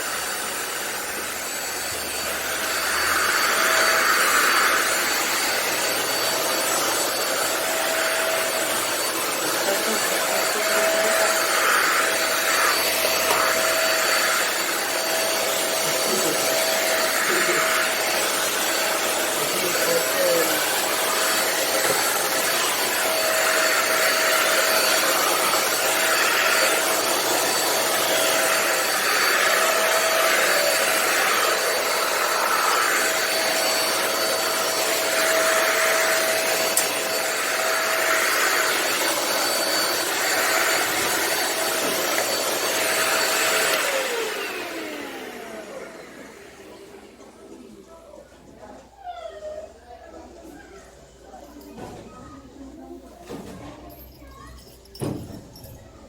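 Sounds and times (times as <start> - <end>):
vacuum cleaner running: 0.0 - 50.4.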